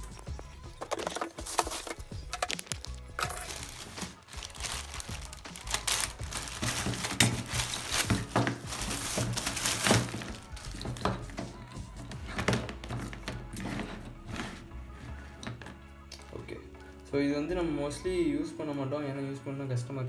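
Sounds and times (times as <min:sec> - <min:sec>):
crinkling and scraping: 0:00.0 - 0:17.0.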